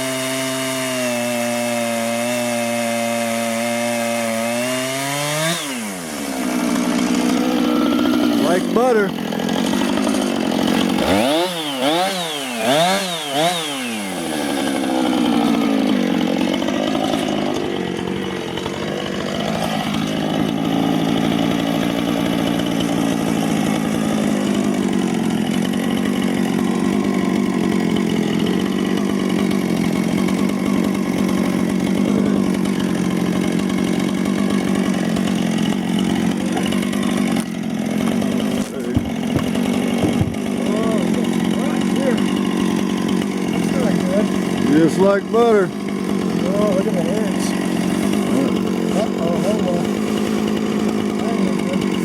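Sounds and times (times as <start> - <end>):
chainsaw cutting log: 0.0 - 52.0.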